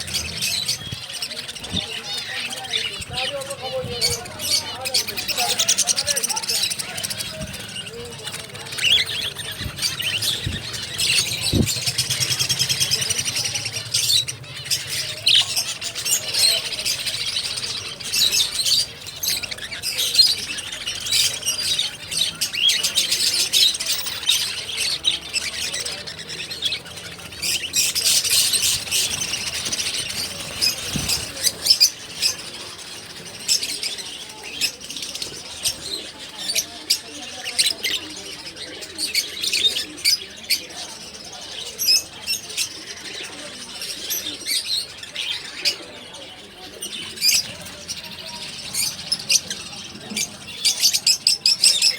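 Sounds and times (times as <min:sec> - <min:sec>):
cage birds chirping and squawking: 0:00.0 - 0:51.9.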